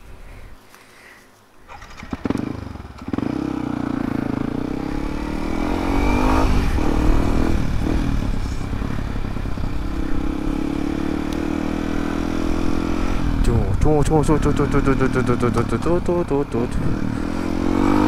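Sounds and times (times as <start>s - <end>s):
motorcycle engine revving: 1.7s - 18.0s.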